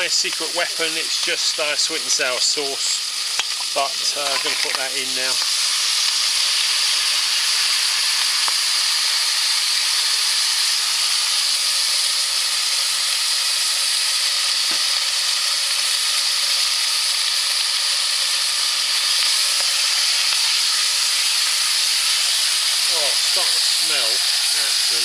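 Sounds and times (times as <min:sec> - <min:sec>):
meat sizzling in hot fat: 0:00.0 - 0:25.0.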